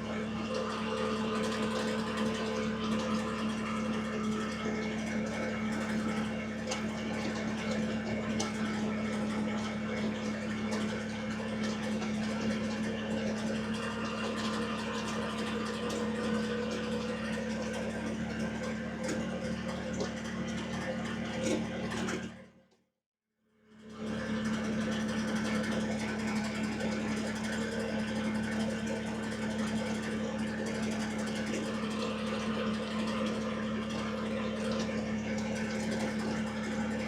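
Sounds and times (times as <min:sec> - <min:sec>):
tractor diesel engine humming: 0:00.0 - 0:22.1, 0:24.1 - 0:37.0.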